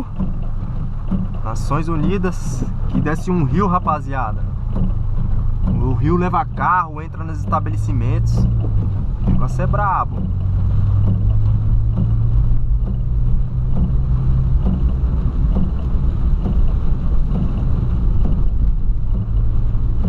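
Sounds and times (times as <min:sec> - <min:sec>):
car engine and tyre drone: 0:00.0 - 0:20.0
faint rain taps: 0:00.0 - 0:20.0.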